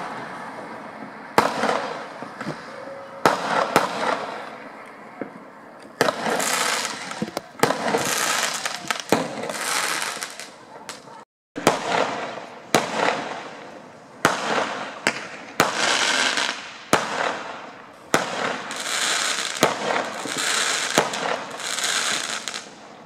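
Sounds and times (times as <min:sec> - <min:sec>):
fireworks banging: 0:00.0 - 0:23.0
fireworks crackling: 0:00.0 - 0:23.0.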